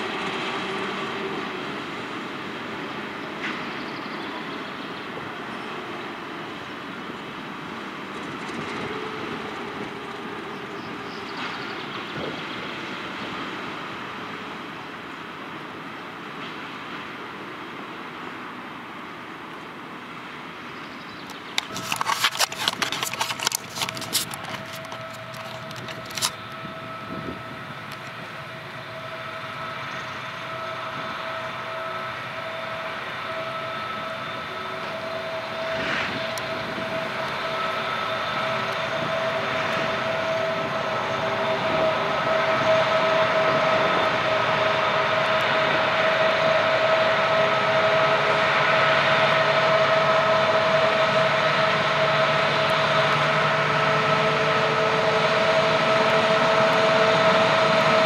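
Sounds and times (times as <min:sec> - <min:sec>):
locomotive engine and transmission whine: 0:00.0 - 0:58.0.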